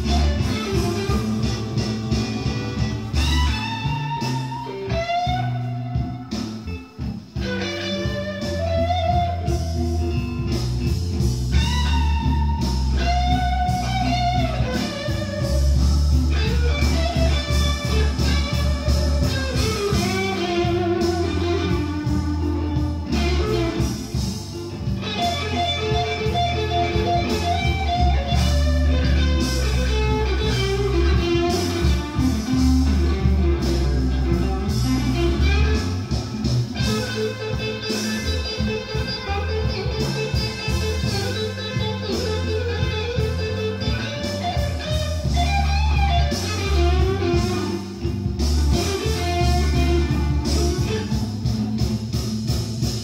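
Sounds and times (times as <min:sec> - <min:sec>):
blues music with electric guitar: 0:00.0 - 0:53.0
heavy bass line: 0:00.0 - 0:53.0.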